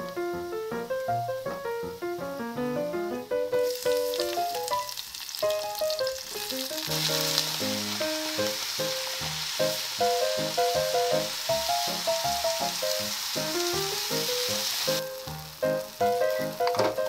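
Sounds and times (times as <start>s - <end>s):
onions sizzling in hot fat: 0.0s - 17.0s.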